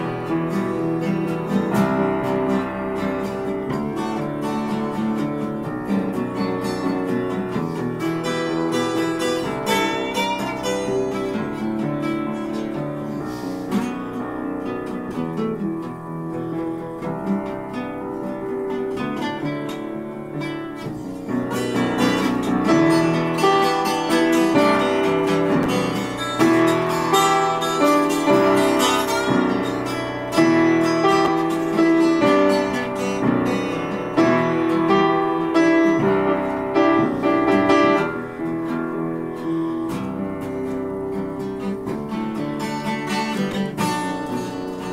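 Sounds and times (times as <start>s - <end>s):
strummed acoustic guitar: 0.0s - 44.9s
upright piano: 0.0s - 44.9s.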